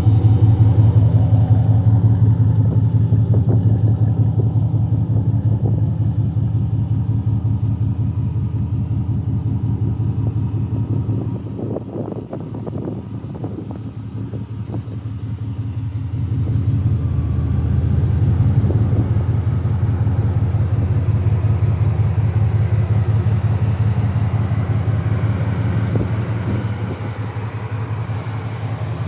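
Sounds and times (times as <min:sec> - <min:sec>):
car engine and exhaust driving: 0:00.0 - 0:29.0.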